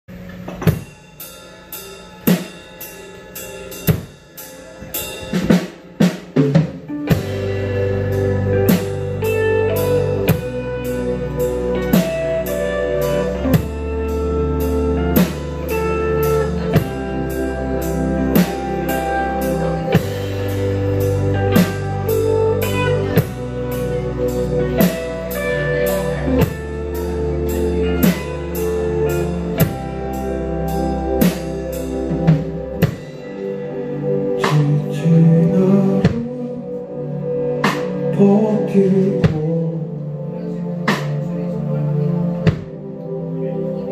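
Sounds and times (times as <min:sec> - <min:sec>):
drum kit: 0:00.1 - 0:39.8, 0:40.8 - 0:43.0
electric bass: 0:02.2 - 0:43.9
electric guitars: 0:03.2 - 0:43.9.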